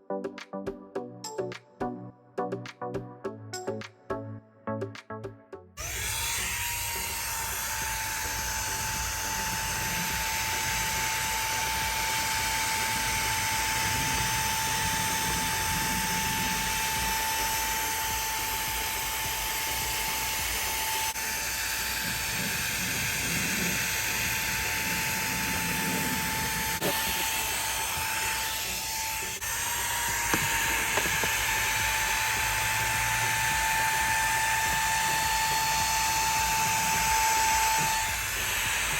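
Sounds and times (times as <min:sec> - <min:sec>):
handheld vacuum motor whine: 0:05.8 - 0:38.9.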